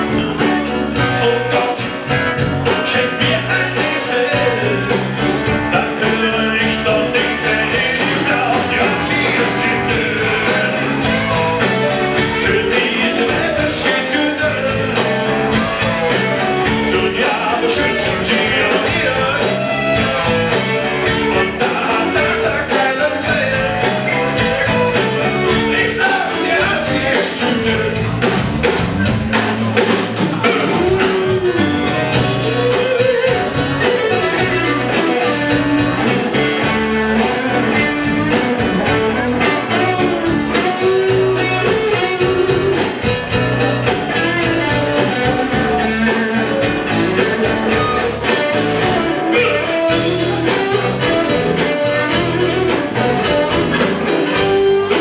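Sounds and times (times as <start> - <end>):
bass guitar: 0.0 - 55.0
drums with steady cymbals: 0.0 - 55.0
electric guitar: 0.0 - 55.0
keyboards: 0.0 - 55.0.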